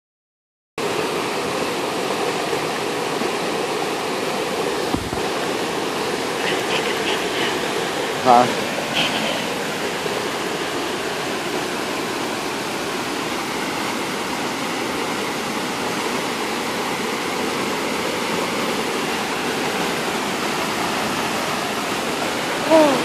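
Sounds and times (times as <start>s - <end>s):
floodwater rushing: 0.8s - 23.0s.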